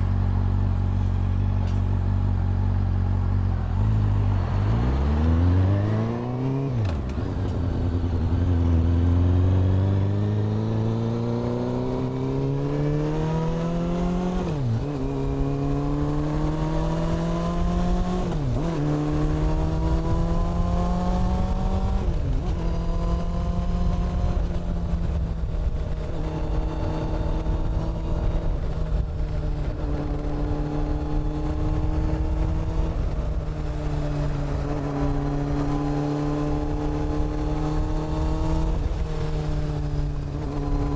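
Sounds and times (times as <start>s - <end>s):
motorcycle engine shifting gears: 1.4s - 40.9s.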